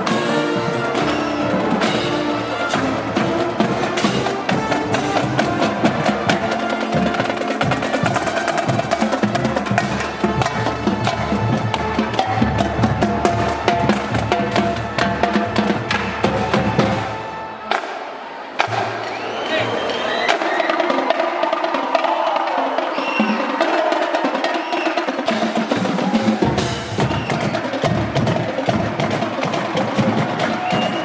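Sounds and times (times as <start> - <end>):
marching band playing: 0.0 - 31.0.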